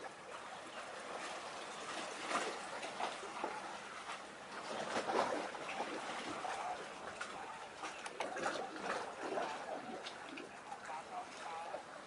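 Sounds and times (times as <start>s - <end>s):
water lapping and trickling: 0.0s - 12.0s
water splashes: 0.0s - 12.0s.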